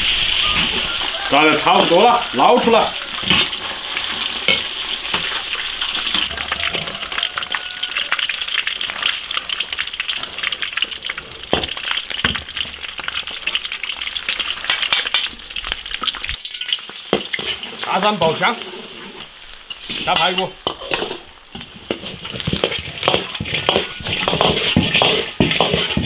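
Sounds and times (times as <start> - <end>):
ribs deep-frying in oil: 0.0 - 26.0.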